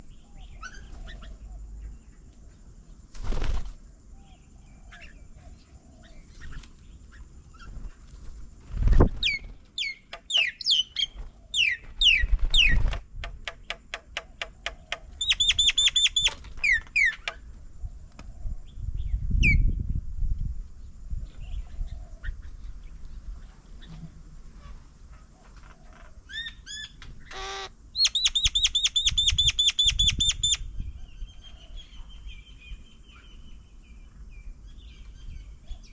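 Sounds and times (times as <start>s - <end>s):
birds whistling and chattering: 0.0s - 2.2s, 3.2s - 8.1s, 8.8s - 13.0s, 13.6s - 19.9s, 21.2s - 23.0s, 25.2s - 35.9s.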